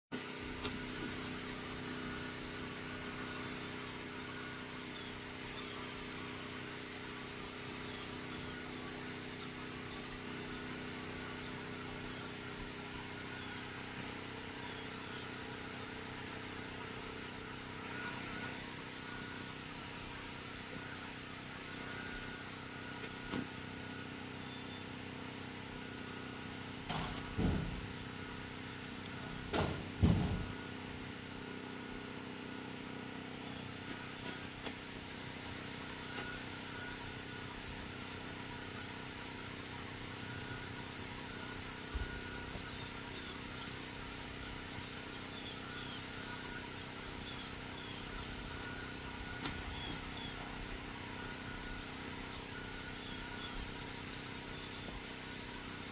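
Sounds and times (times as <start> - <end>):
compressor droning hum: 0.1 - 55.9.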